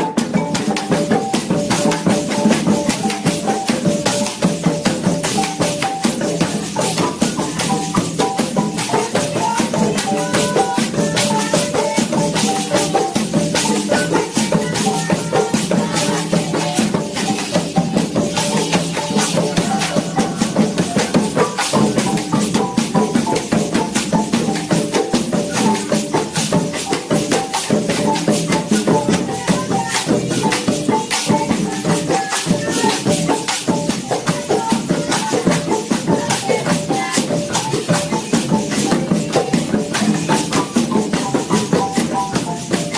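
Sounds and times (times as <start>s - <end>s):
drums: 0.0s - 42.9s
fast rattling shaker: 0.0s - 42.9s
marimba playing quick notes: 0.0s - 42.9s.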